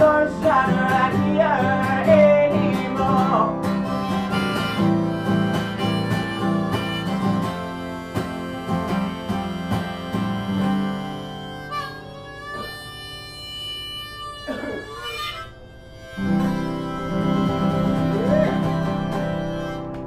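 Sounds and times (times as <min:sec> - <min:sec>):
acoustic guitar strumming: 0:00.0 - 0:20.0
harmonica: 0:00.0 - 0:20.0.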